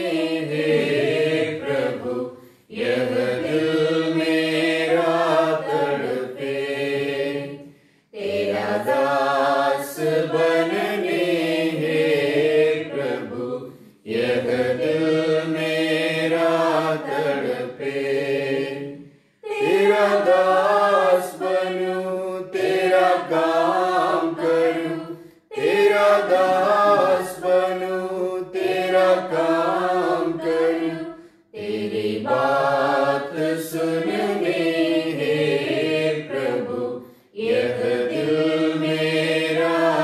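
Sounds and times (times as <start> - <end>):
person singing a hymn: 0.0 - 7.6, 8.2 - 40.0.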